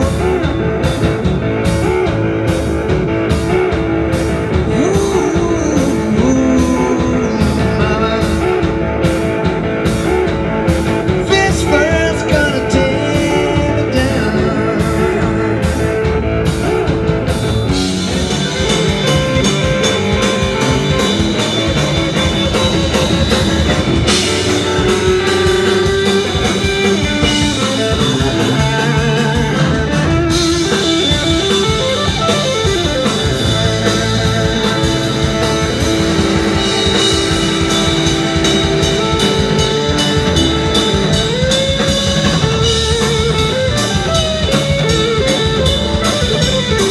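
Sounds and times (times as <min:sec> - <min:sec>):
drum strikes: 0:00.0 - 0:46.9
lead electric guitar bending notes: 0:00.0 - 0:46.9
live rock band playing: 0:00.0 - 0:46.9.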